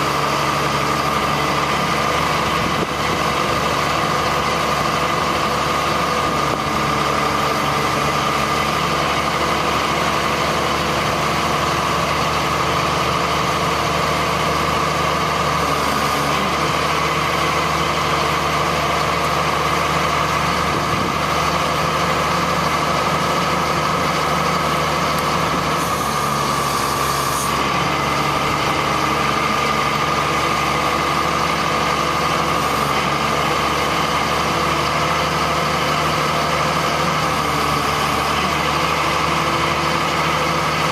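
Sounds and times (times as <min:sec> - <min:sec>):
high engine whine: 0:00.0 - 0:40.9
truck engine running: 0:00.0 - 0:40.9.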